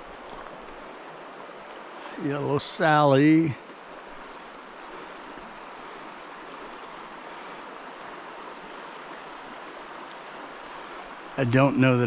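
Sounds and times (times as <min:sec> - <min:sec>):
mountain stream rushing: 0:00.0 - 0:12.0
thin high hiss: 0:00.0 - 0:12.0.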